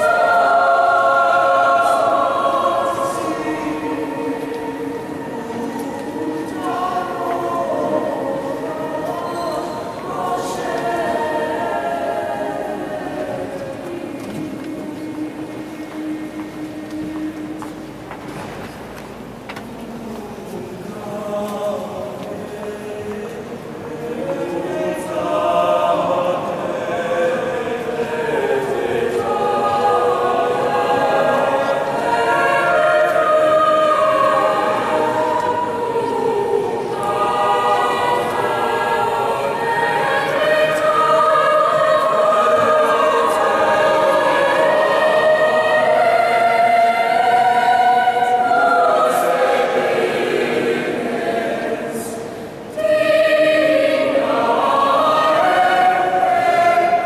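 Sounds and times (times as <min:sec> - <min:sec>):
mixed choir singing sustained chords: 0:00.0 - 0:57.0.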